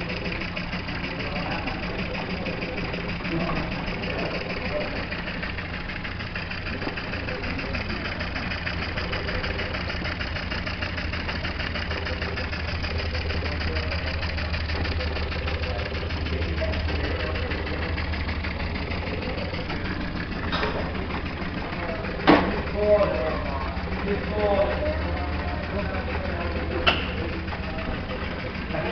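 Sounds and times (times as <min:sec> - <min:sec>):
model steam engine clatter: 0:00.0 - 0:28.9.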